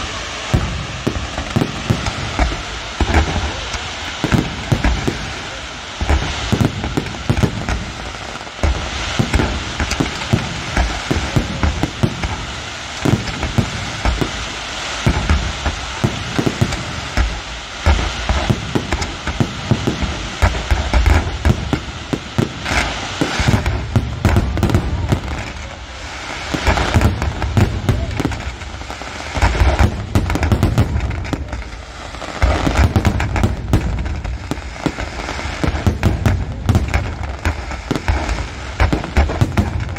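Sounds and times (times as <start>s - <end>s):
firework booms: 0.0s - 39.9s
fireworks crackling: 0.0s - 39.9s.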